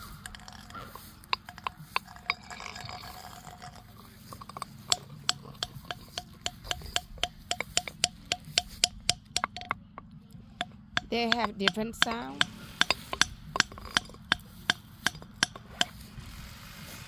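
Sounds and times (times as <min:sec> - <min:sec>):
hard objects clinking: 0:00.0 - 0:16.1.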